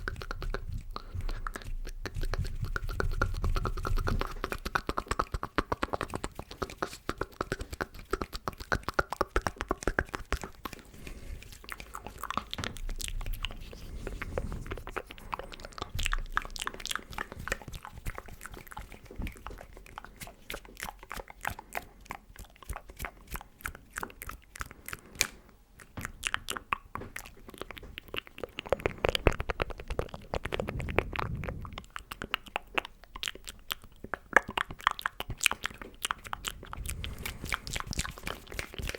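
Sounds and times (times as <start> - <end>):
mouth clicks and smacks: 0.0 - 38.9.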